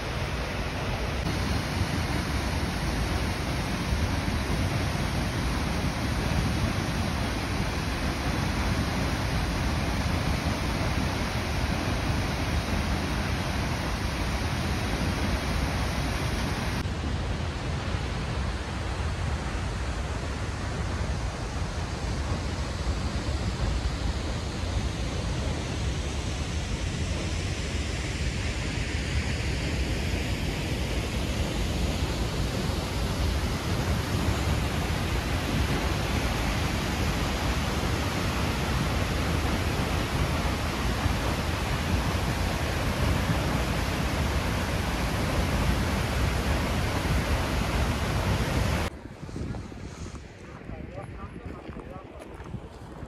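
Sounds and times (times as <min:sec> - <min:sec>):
waterfall rushing: 0:00.0 - 0:17.0, 0:19.1 - 0:49.0.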